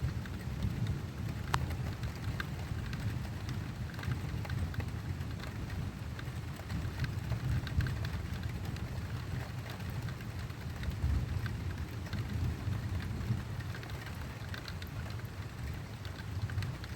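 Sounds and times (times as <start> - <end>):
rain drops ticking: 0.0 - 16.9.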